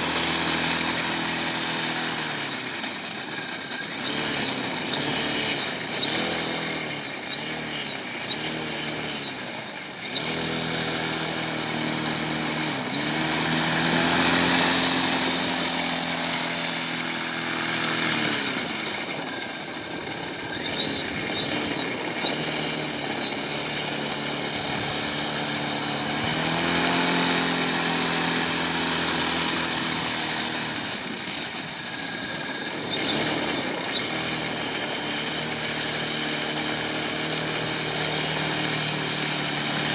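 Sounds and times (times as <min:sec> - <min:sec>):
propeller drive running: 0:00.0 - 0:39.9.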